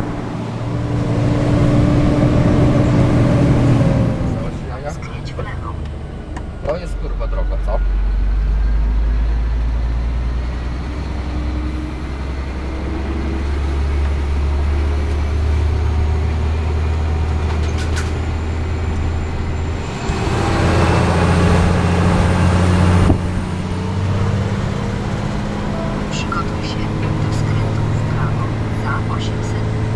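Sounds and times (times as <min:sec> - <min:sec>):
diesel truck engine droning: 0:00.0 - 0:29.9.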